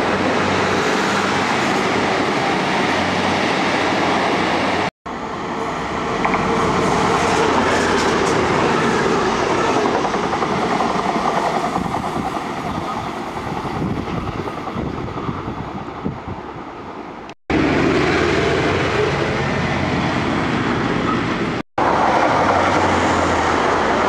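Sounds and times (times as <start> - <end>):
road traffic: 0.0 - 14.0, 16.0 - 24.0
diesel train running: 0.0 - 24.0.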